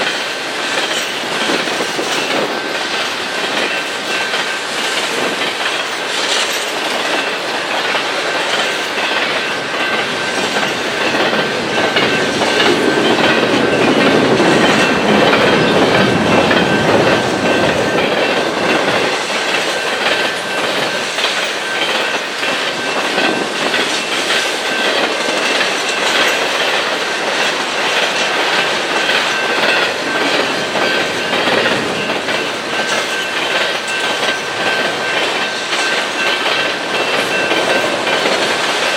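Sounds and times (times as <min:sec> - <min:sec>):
train wheels clicking on rails: 0:00.0 - 0:38.9.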